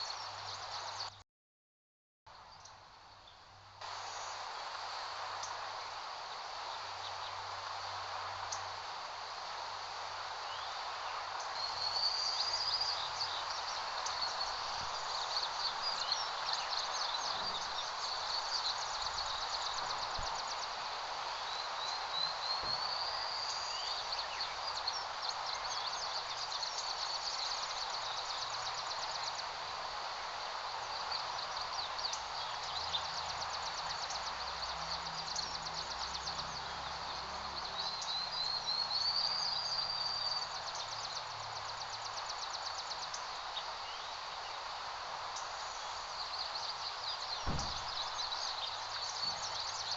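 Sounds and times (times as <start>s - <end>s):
small birds chirping: 9.4s - 49.9s.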